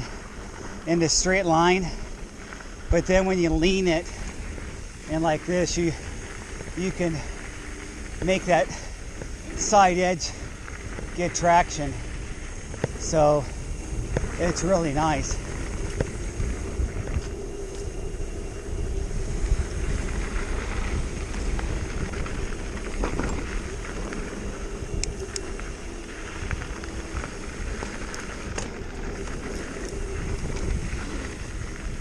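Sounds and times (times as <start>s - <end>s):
bike clicks and rattles: 0.0s - 32.0s
knobby tyres rolling over dirt: 0.0s - 32.0s
wind on microphone: 0.0s - 32.0s.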